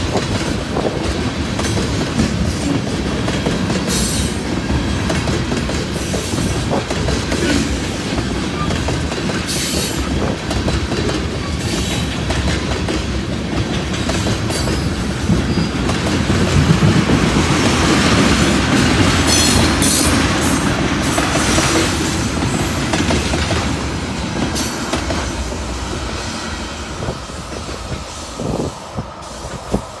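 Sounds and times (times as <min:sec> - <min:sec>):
wheels clacking over rail joints: 0:00.0 - 0:26.2
freight train rolling past: 0:00.0 - 0:30.0.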